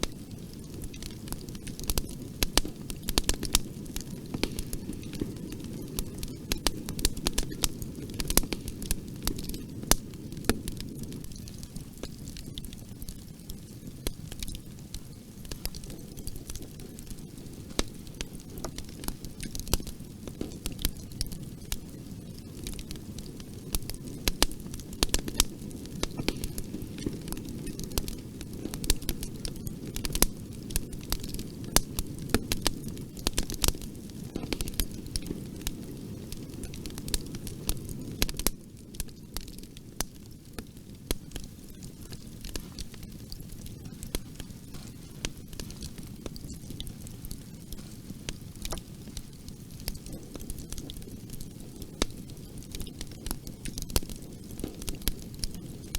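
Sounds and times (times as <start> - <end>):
rush of flames: 0.0 - 55.9
wood crackling and popping: 0.0 - 55.9.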